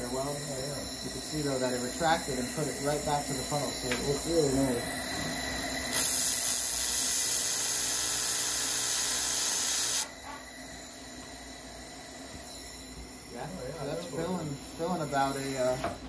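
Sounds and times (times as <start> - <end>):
laser welder hiss: 0.1 - 15.9.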